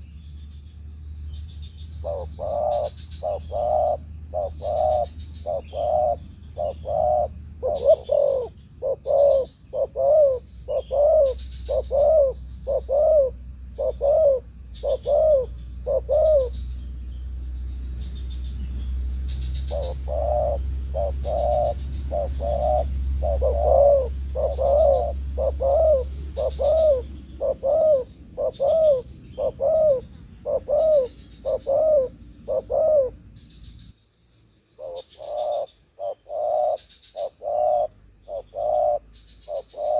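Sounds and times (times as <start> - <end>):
doves cooing: 2.0 - 16.7, 19.3 - 33.3, 34.8 - 39.9.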